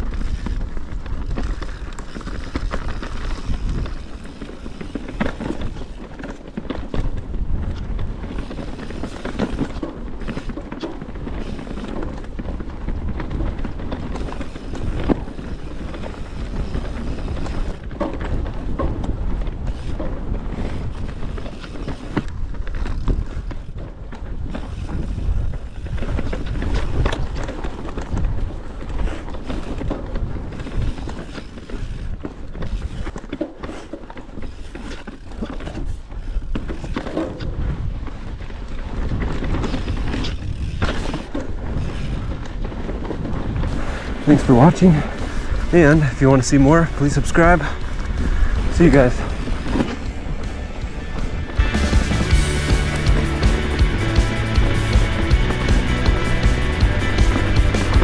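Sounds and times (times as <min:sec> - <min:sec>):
bike knocking and rattling: 0:00.0 - 0:58.0
bike tyres rumbling on dirt: 0:00.0 - 0:58.0.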